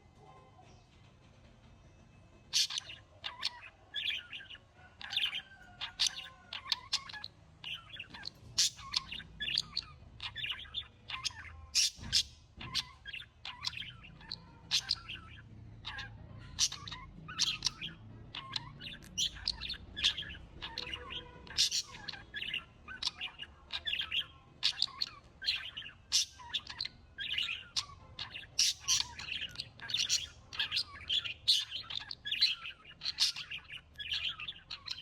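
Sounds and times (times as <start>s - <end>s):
birds chirping: 1.6s - 35.0s.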